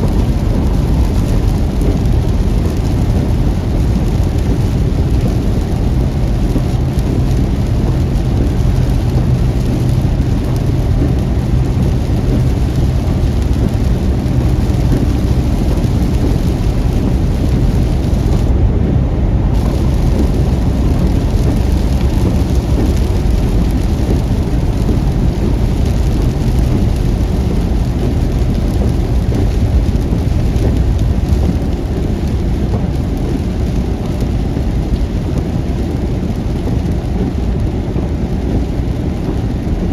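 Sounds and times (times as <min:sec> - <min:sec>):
heavy rain on a moving car: 0:00.0 - 0:39.9
low rumble: 0:00.0 - 0:39.9.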